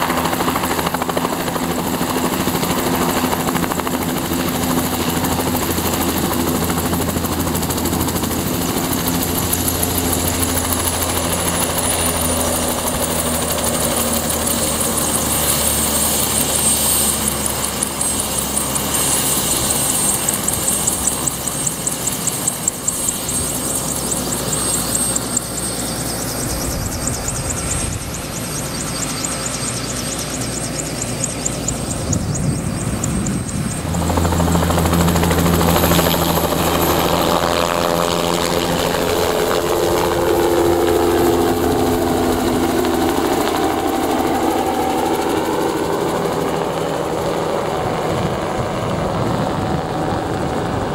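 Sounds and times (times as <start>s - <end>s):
helicopter rotor beat: 0.0s - 50.9s
helicopter turbine whine: 0.0s - 50.9s.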